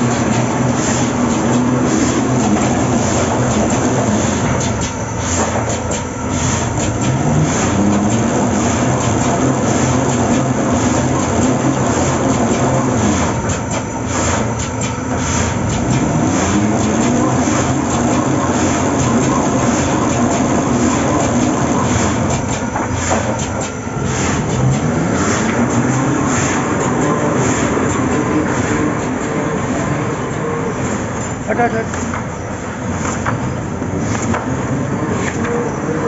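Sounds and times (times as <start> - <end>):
machine clicking and clatter: 0.0 - 32.3
punching machine drone: 0.0 - 36.0.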